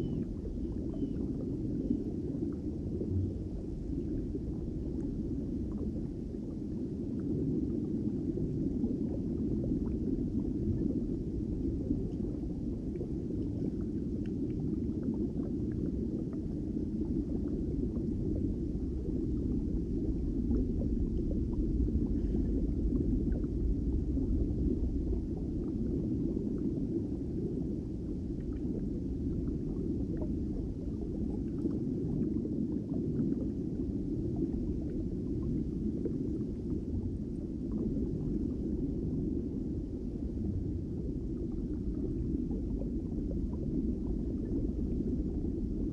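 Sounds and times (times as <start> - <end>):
muffled underwater rumble: 0.0 - 45.9.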